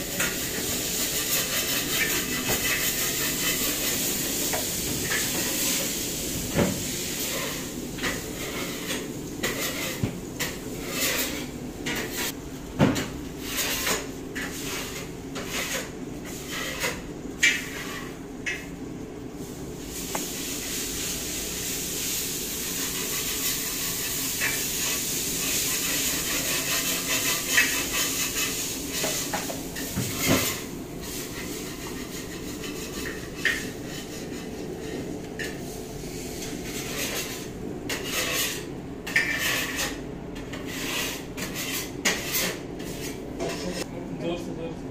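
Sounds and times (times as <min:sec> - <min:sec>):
steady hum and hiss: 0:00.0 - 0:44.9.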